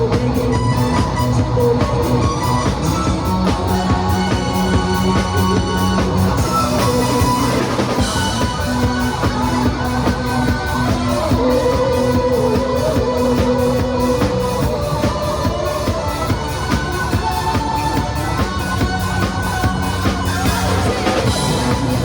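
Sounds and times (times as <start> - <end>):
drum kit steady beat: 0.0 - 22.0.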